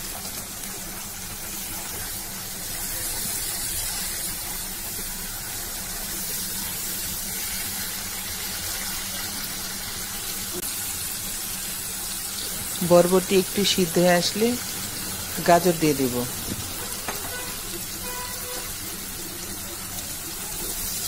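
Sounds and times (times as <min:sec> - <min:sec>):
beans sizzling in oil: 0:00.0 - 0:21.0.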